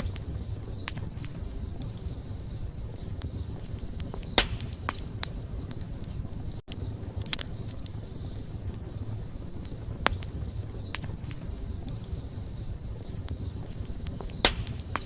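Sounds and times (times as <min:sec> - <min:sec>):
fire pops and crackles: 0:00.0 - 0:15.0
wood fire burning: 0:00.0 - 0:15.0.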